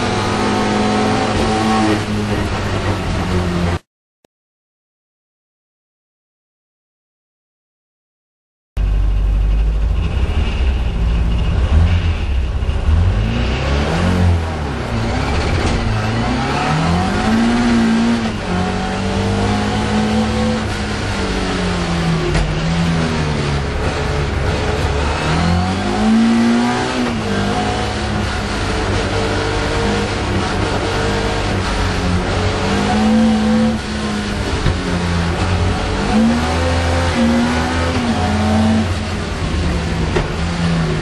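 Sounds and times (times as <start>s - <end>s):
car engine revving: 0.0s - 3.8s, 8.8s - 41.0s.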